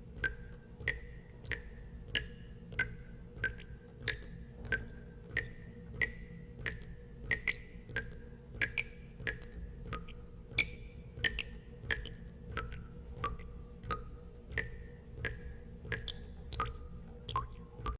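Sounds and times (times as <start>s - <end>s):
steady low hum: 0.0s - 17.9s
water drops plinking into water: 0.1s - 17.9s.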